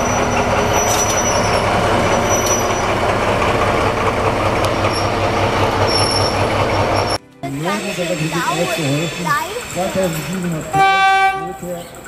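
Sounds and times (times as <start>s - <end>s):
diesel locomotive engine throb: 0.0s - 12.0s.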